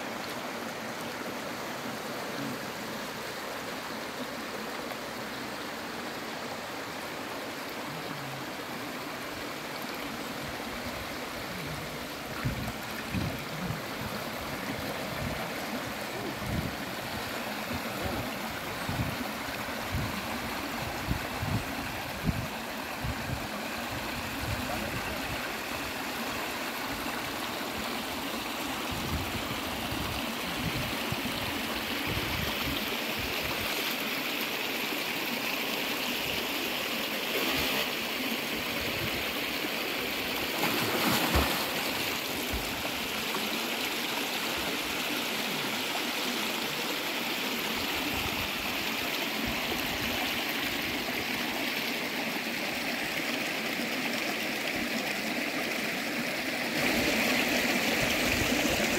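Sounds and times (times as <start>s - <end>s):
river water gurgling over rocks: 0.0s - 58.9s.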